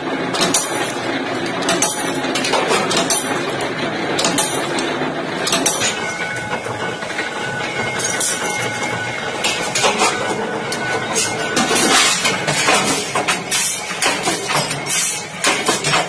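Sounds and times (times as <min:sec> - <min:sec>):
power press metallic clanks: 0:00.0 - 0:16.0
steady machine noise: 0:00.0 - 0:16.0.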